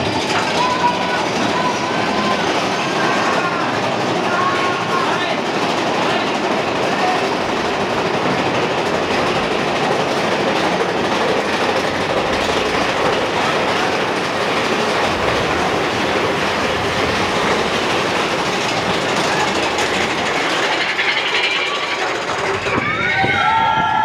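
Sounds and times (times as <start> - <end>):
roller coaster rattling on track: 0.0 - 24.0.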